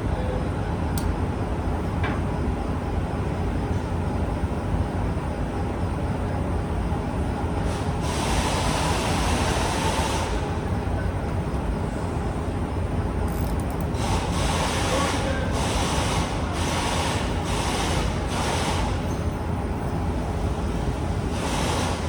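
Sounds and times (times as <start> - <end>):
workshop machinery rumble: 0.0 - 22.0.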